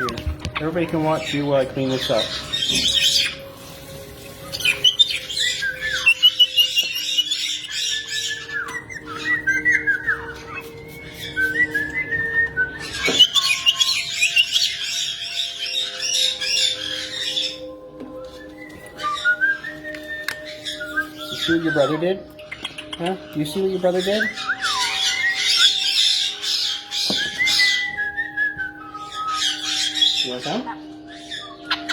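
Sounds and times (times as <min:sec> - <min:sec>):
parrot whistles: 0:04.4 - 0:17.6, 0:18.2 - 0:22.9, 0:24.0 - 0:31.9.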